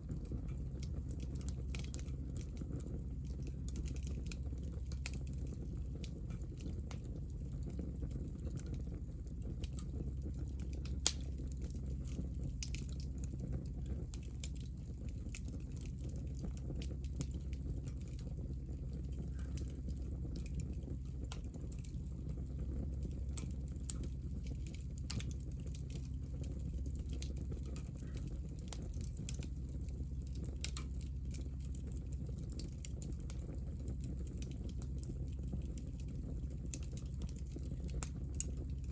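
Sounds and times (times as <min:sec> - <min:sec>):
steady low rumble: 0:00.0 - 0:38.9
wood fire crackling: 0:00.0 - 0:38.9.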